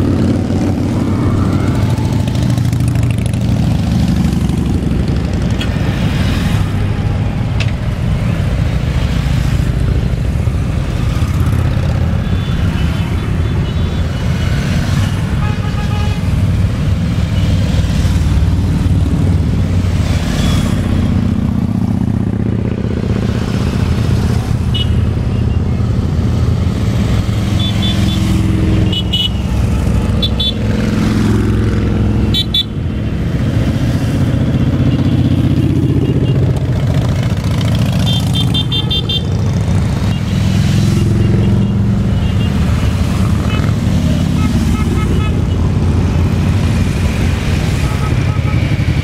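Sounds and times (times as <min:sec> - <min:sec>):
motorcycle engines rumbling past: 0:00.0 - 0:49.0.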